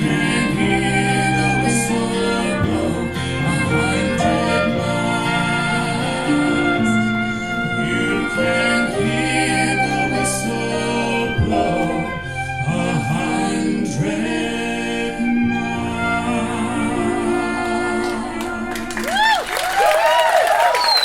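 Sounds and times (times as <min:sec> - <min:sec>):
folk singers harmonizing: 0:00.0 - 0:19.9
acoustic instruments: 0:00.0 - 0:21.0.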